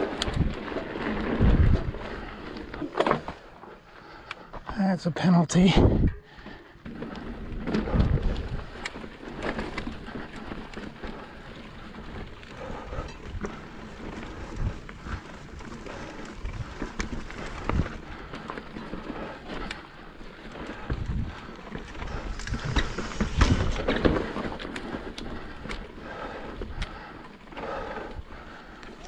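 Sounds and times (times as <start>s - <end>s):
bike knocking and rattling: 0.0s - 4.8s, 5.6s - 29.0s.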